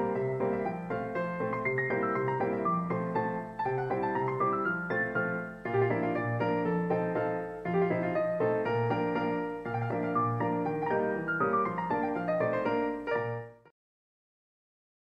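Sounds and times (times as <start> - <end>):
piano music: 0.0 - 13.7.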